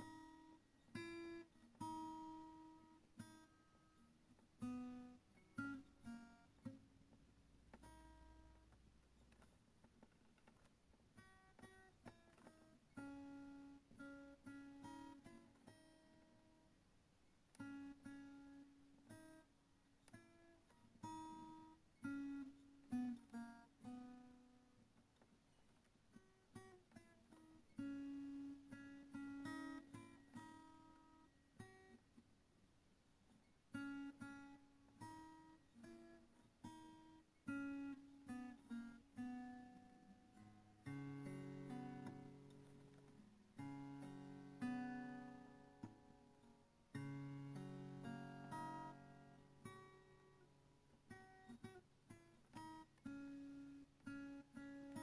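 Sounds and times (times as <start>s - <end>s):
acoustic guitar music: 0.0s - 55.0s.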